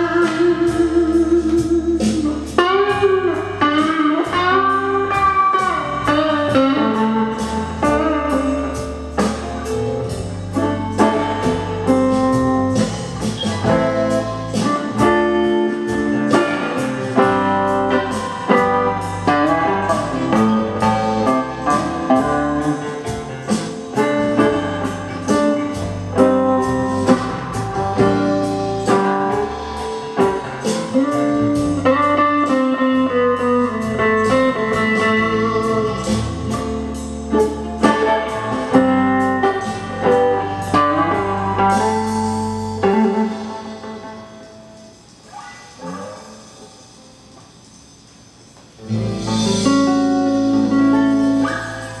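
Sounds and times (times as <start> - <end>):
steady drum beat: 0.0 - 43.2
bass guitar: 0.0 - 46.7, 48.8 - 52.0
clean electric guitar blues lead: 0.0 - 47.6, 48.7 - 52.0.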